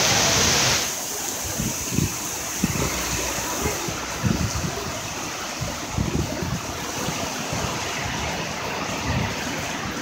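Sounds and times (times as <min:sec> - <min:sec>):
car tyres swishing through water: 0:00.0 - 0:10.0
heavy rain hissing on street: 0:00.0 - 0:10.0
wind buffeting microphone: 0:01.4 - 0:10.0.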